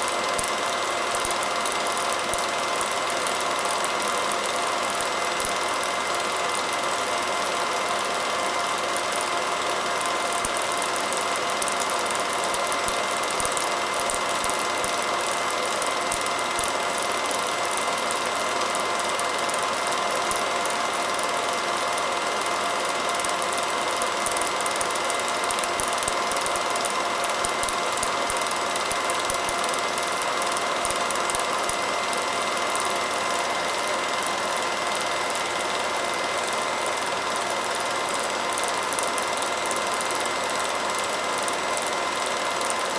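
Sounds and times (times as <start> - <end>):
film projector whirring: 0.0 - 42.9.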